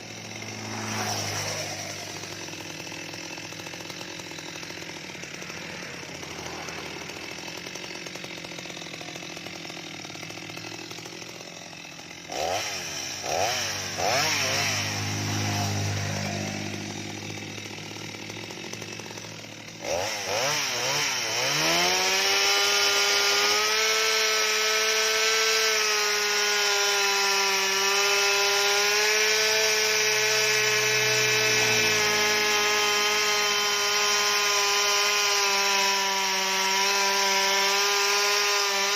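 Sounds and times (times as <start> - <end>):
chainsaw cutting wood: 0.0 - 38.9
chainsaw idling and revving: 0.0 - 38.9.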